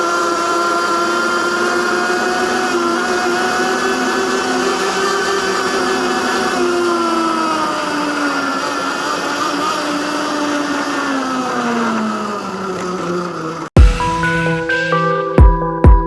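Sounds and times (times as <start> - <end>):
electric motor whining: 0.0 - 15.2.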